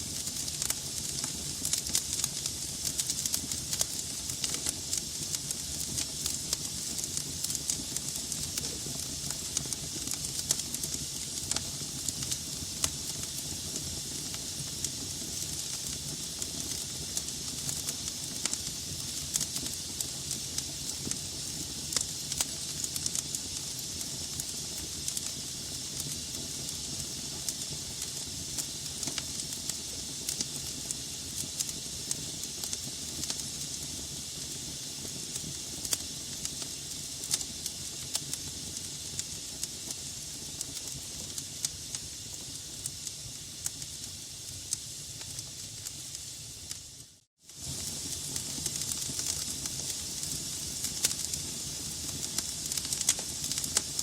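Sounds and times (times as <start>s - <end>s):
fire crackling and popping: 0.0s - 54.0s
fire hissing: 0.0s - 54.0s.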